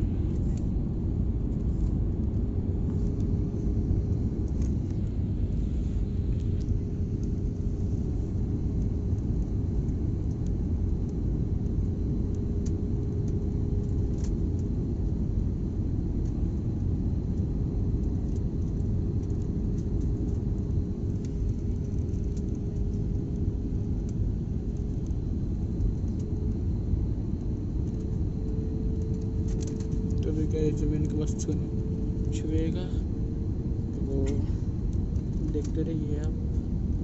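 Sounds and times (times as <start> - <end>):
engine and airflow rumble: 0.0 - 37.0
faint steady hum: 0.0 - 37.0.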